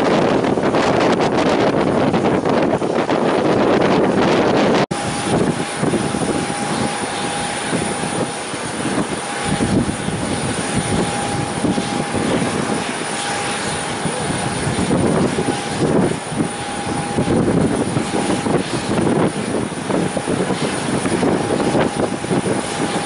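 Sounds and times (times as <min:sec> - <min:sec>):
airplane engines whining: 0:00.0 - 0:23.0
wind buffeting microphone: 0:00.0 - 0:23.0.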